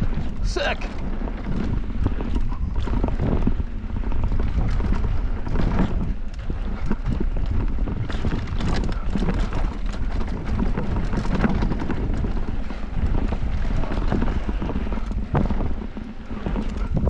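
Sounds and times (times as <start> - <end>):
clicks and rattles of bike: 0.0 - 17.0
mountain bike on dirt trail: 0.0 - 17.0.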